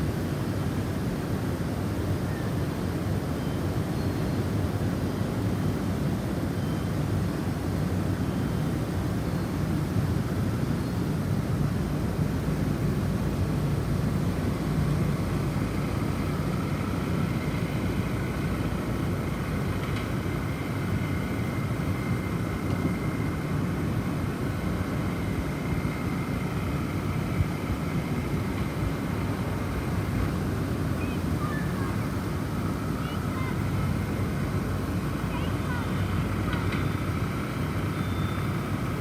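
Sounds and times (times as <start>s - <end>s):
wind blowing with low rumble: 0.0s - 39.0s.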